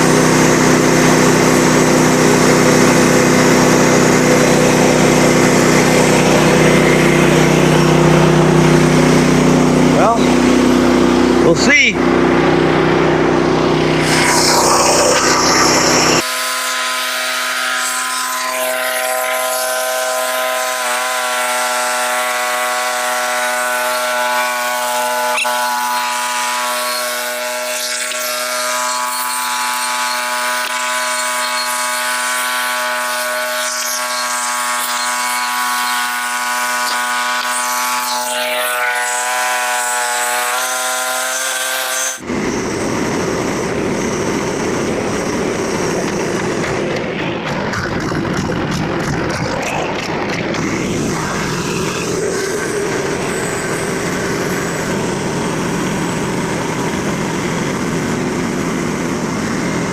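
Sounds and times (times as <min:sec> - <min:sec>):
engine-driven saw cutting wood: 0:00.0 - 0:59.9.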